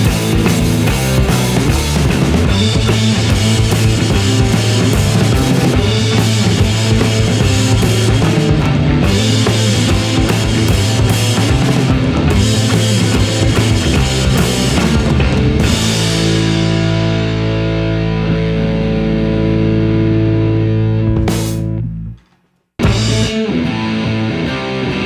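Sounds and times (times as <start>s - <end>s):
electric guitar: 0.0s - 22.2s, 22.8s - 25.0s
drums: 0.0s - 25.0s.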